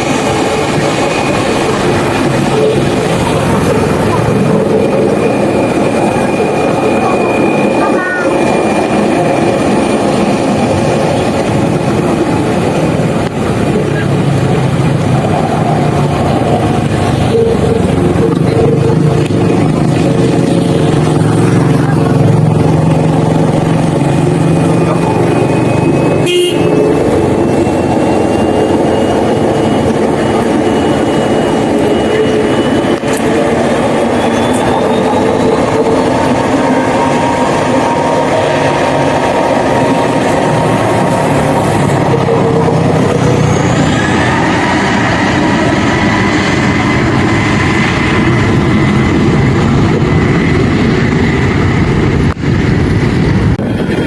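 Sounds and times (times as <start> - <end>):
high engine whine: 0.0 - 54.0
jet engines running: 0.0 - 54.0.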